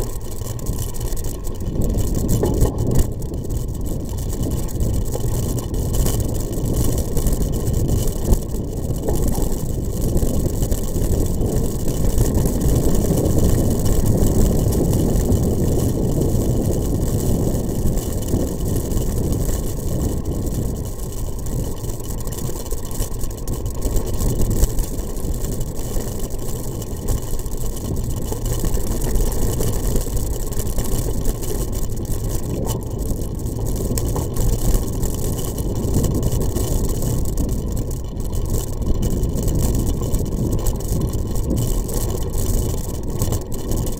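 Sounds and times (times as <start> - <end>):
vehicle engine rumbling: 0.0 - 43.9.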